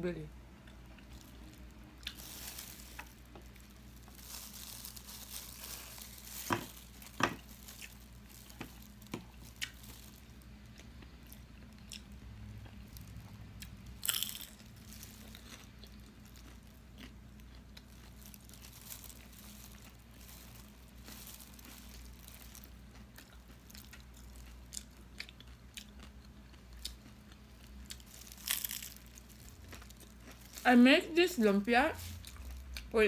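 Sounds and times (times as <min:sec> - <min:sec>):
person chewing crunchy food: 0:00.6 - 0:30.8, 0:32.0 - 0:33.0.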